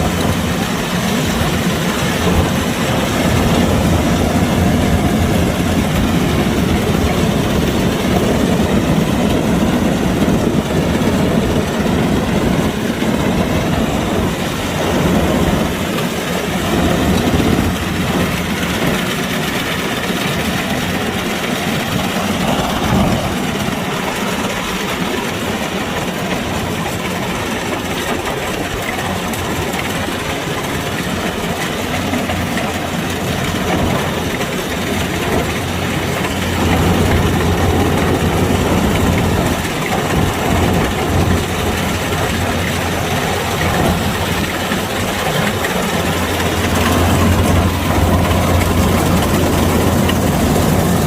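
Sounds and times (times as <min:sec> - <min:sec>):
combine harvester engine drone: 0:00.0 - 0:51.0.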